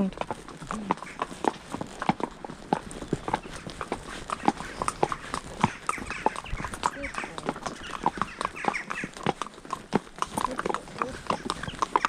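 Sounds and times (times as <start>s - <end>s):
horse hooves clip-clopping on road: 0.0s - 12.0s.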